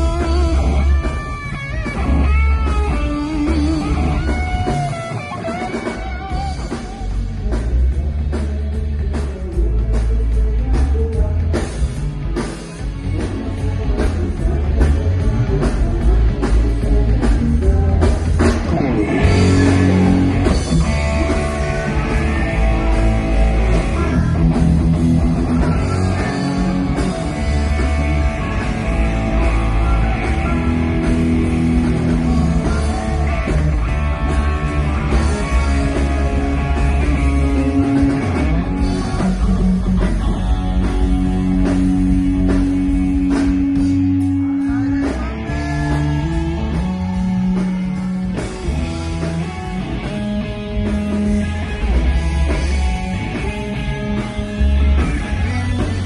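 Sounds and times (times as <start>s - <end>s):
rock band playing live: 0.0s - 56.0s
person singing: 2.3s - 12.2s, 13.0s - 49.8s.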